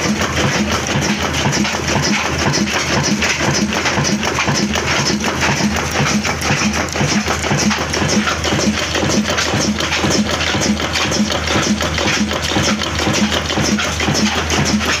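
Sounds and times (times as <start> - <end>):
clatter of ticks: 0.0 - 15.0
diesel engine knocking: 0.0 - 15.0.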